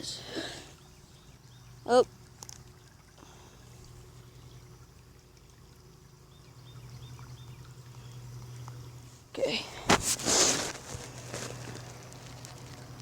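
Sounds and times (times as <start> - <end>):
creek water trickling: 0.0 - 13.0
steady low hum: 0.0 - 13.0.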